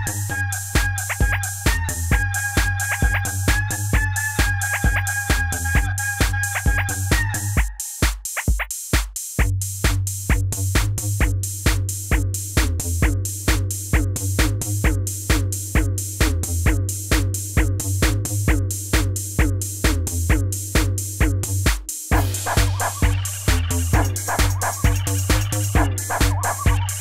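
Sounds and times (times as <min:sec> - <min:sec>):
electronic music with drum beat: 0:00.0 - 0:27.0.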